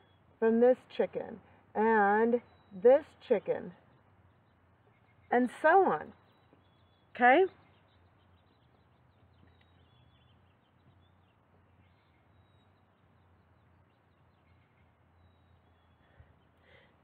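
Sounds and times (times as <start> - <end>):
faint low hum: 0.0 - 17.0
faint high-pitched chirps: 2.4 - 17.0.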